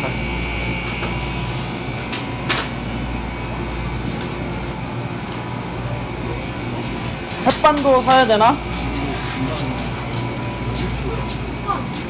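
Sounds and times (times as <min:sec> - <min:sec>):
machinery hum and hiss: 0:00.0 - 0:12.0.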